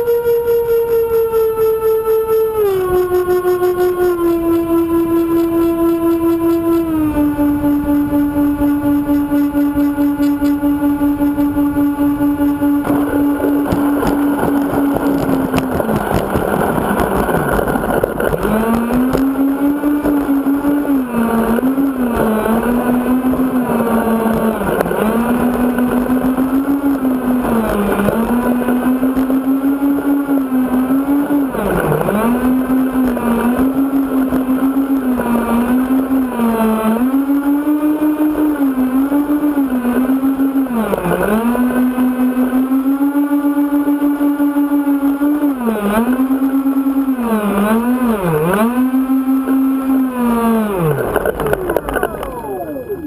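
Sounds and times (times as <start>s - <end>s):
electric ducted fans whining: 0.0s - 53.0s.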